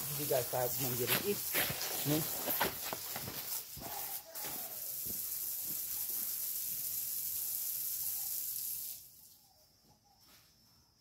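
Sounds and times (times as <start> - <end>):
hose water spraying: 0.0 - 9.3.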